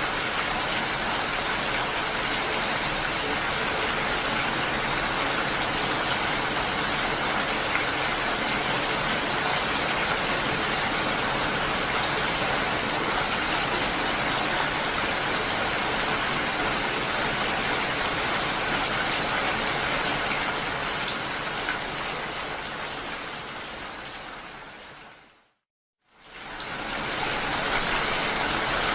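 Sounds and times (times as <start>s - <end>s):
heavy rain falling: 0.0s - 25.2s, 26.2s - 28.9s.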